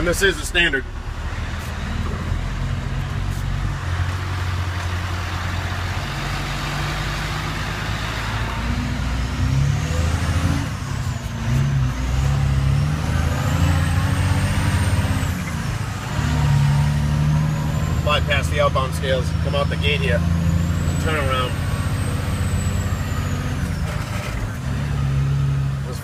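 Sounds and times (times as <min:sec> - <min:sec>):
road noise: 0:00.0 - 0:26.0
truck diesel engine running: 0:00.0 - 0:26.0.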